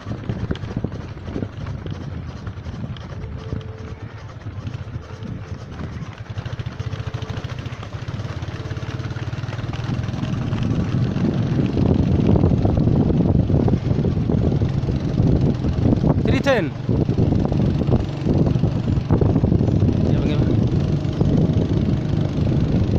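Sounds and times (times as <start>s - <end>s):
low engine hum: 0.0s - 22.9s
runners' footsteps on dirt road: 0.0s - 22.9s.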